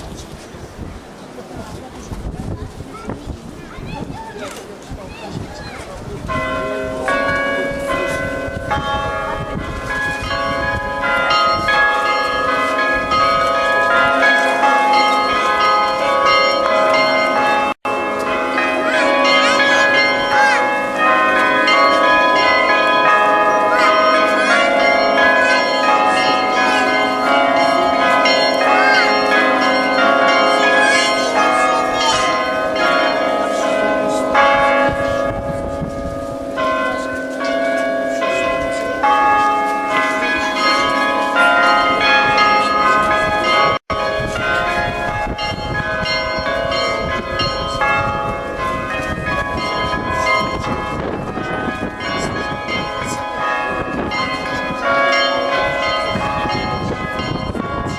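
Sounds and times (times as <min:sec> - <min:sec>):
church bells pealing: 0:02.3 - 0:57.9.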